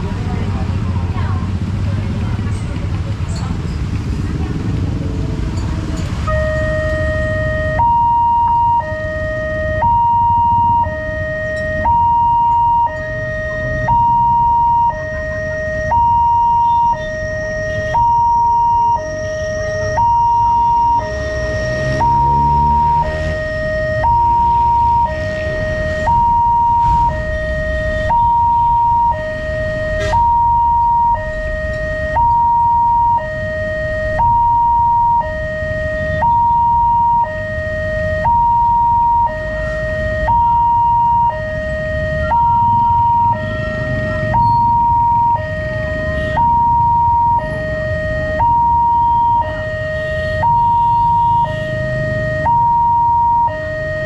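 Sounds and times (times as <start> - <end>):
level crossing two-tone alarm: 6.2 - 54.0.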